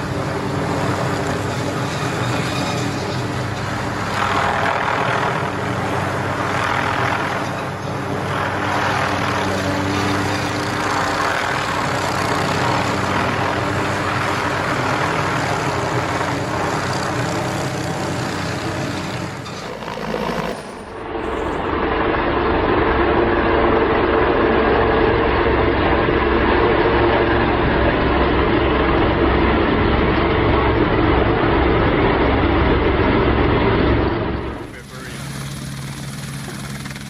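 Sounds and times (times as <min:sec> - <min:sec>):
large engine humming: 0:00.0 - 0:37.0.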